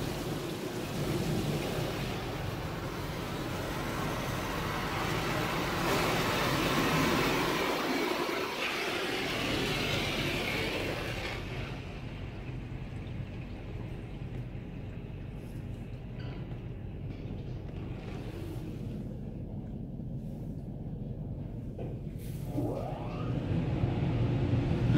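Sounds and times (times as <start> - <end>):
low machinery hum: 0.0 - 24.9.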